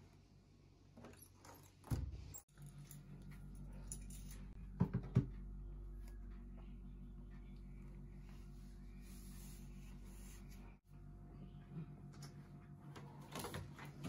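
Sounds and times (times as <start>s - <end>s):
steady low hum: 2.2s - 14.0s.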